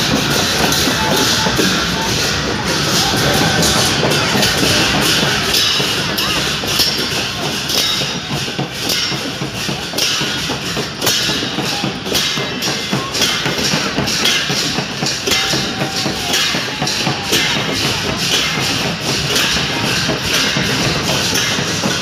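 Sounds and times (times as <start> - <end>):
percussion crashing: 0.0 - 22.0
procession crowd noise: 0.0 - 22.0.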